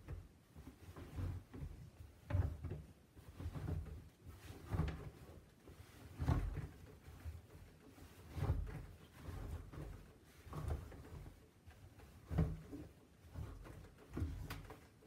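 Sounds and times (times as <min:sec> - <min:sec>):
fabric rustling and thumping: 0:00.0 - 0:15.0.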